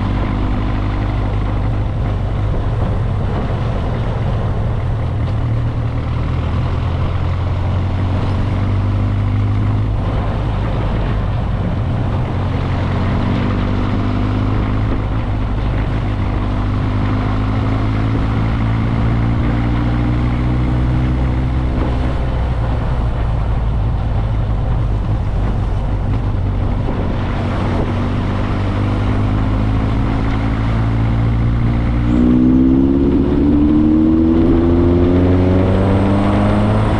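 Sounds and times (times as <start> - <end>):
motorcycle engine running: 0.0 - 36.9
steady rushing noise: 0.0 - 36.9.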